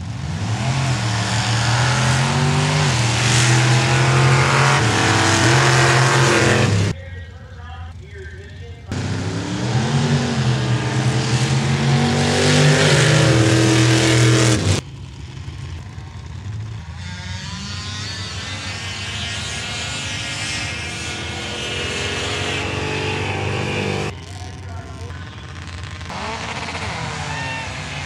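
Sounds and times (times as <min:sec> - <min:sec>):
vehicle engine revving: 0:00.0 - 0:07.1, 0:07.9 - 0:28.0.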